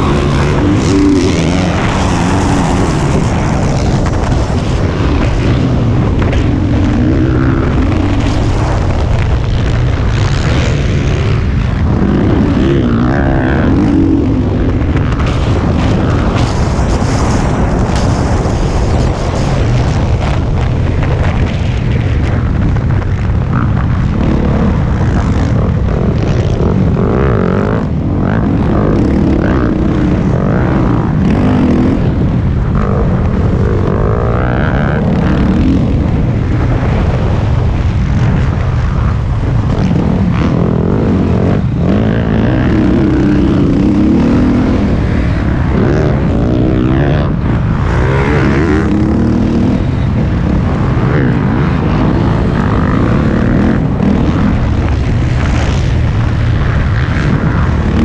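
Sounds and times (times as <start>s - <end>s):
dirt bike engine revving: 0.0s - 58.0s
wind noise on microphone: 0.0s - 58.0s.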